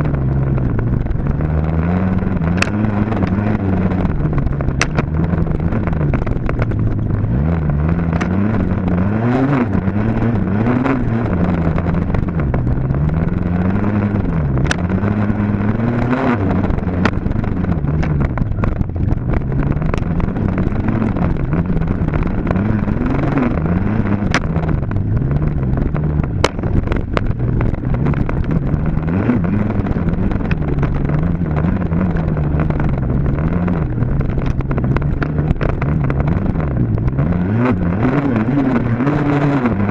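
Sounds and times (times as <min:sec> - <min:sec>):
dirt bike engine revving: 0:01.2 - 0:39.9.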